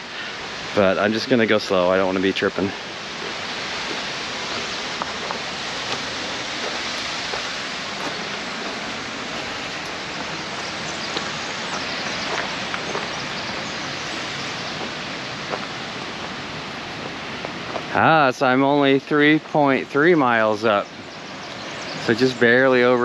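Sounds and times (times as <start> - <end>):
fast creek rushing: 0.0 - 23.0.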